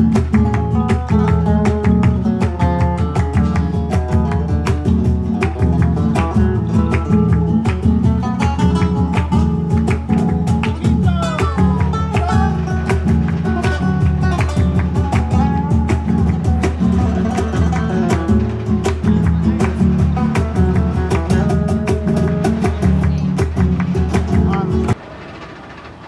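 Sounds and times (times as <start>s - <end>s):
flamenco guitar music: 0.0s - 25.0s.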